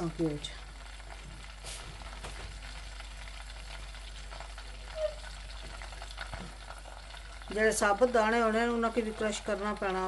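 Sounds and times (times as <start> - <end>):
butter sizzling in a pot: 0.0 - 10.0.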